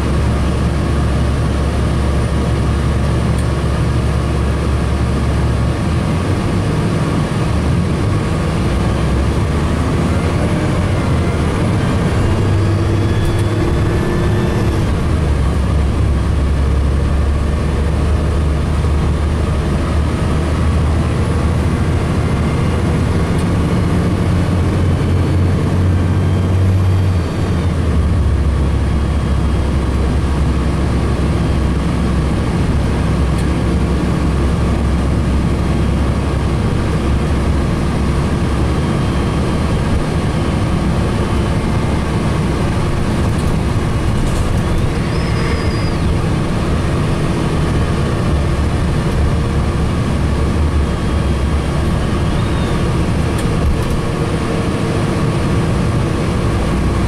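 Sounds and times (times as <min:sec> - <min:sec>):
bus engine hum: 0:00.0 - 0:57.0.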